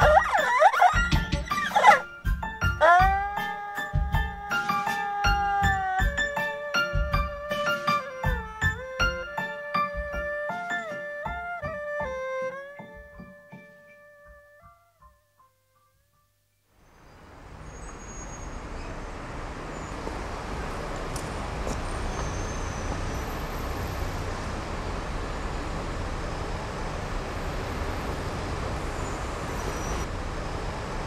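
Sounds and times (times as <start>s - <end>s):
city street traffic: 0.0s - 13.4s, 16.7s - 31.0s.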